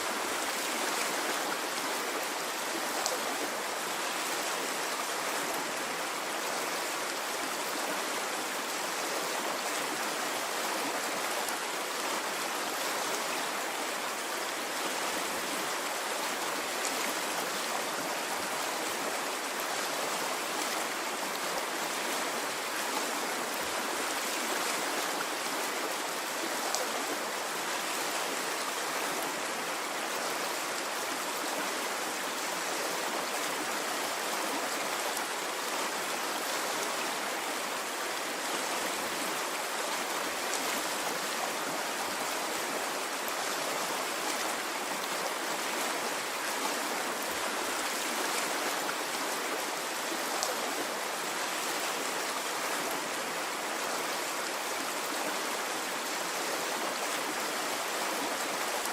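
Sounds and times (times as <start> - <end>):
stream water flowing: 0.0 - 58.9.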